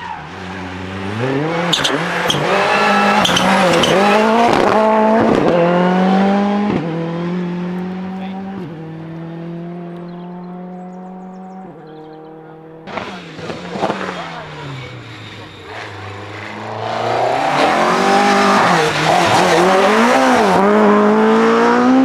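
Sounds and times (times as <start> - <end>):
rally car engine revving: 0.0 - 22.0
second rally car engine: 0.0 - 22.0.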